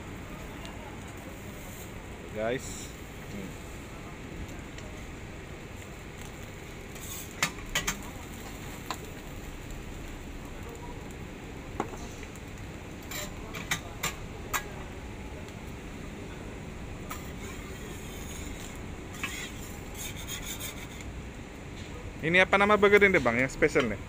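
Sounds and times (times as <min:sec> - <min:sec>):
griddle sizzling: 0:00.0 - 0:24.0.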